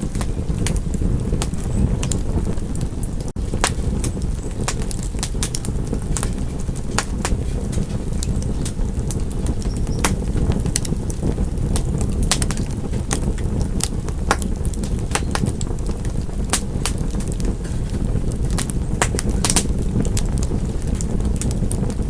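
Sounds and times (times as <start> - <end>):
fire popping and snapping: 0.0 - 22.0
low roar of flames: 0.0 - 22.0.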